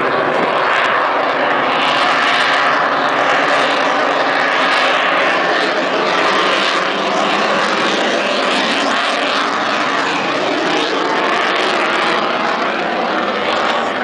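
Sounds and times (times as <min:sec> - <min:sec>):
loud steady jet noise: 0:00.0 - 0:14.0.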